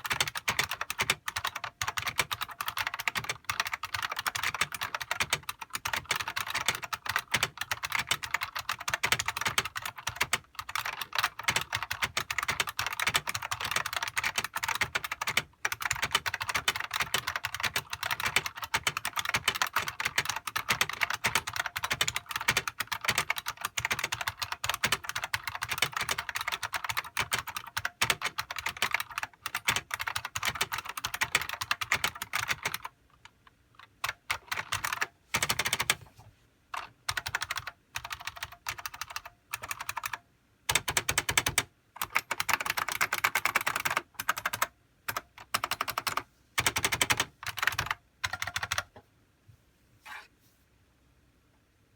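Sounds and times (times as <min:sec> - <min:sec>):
fast clicky keyboard typing: 0:00.0 - 0:36.0, 0:36.8 - 0:48.9.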